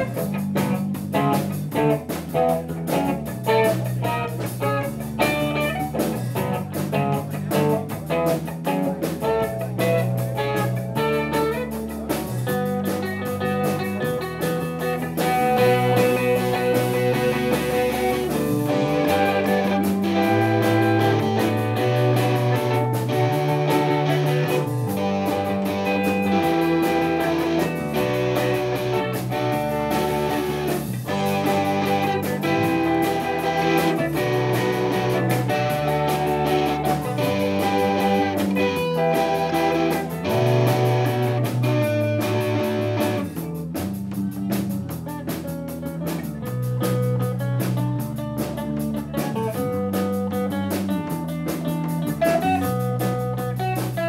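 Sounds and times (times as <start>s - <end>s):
drums: 0.0s - 54.0s
electric bass guitar: 0.0s - 54.0s
electric guitar: 0.0s - 54.0s.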